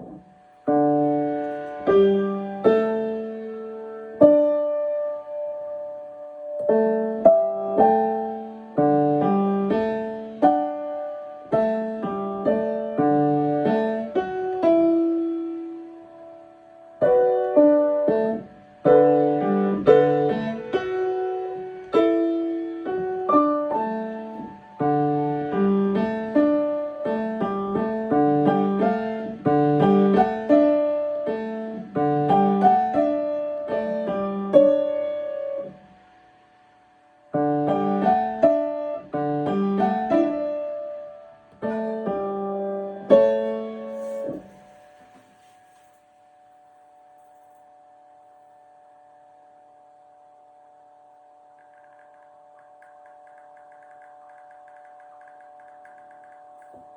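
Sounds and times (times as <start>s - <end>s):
piano playing: 0.0s - 35.8s, 37.3s - 49.3s.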